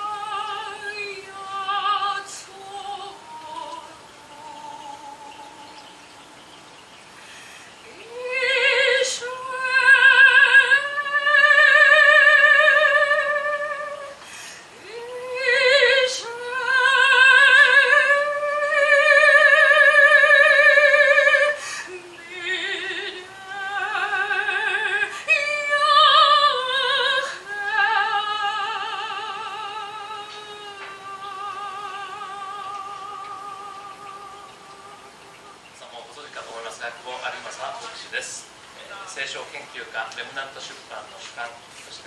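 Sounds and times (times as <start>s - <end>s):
woman singing operatically: 0.0s - 6.6s, 7.8s - 35.8s.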